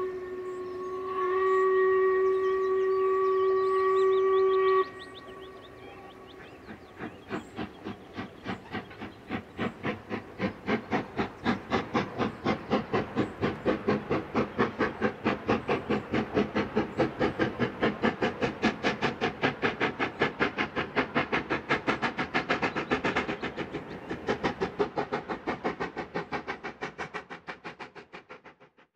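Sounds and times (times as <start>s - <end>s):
steam locomotive chuffing: 0.0s - 28.9s.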